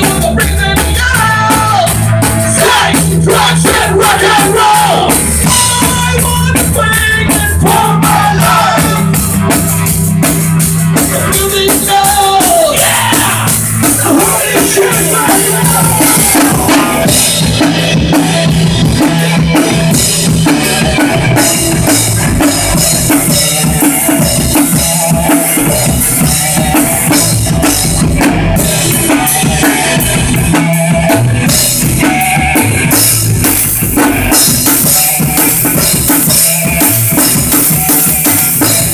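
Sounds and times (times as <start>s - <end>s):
drum kit playing steady beat: 0.0s - 38.9s
held bass line: 0.0s - 38.9s.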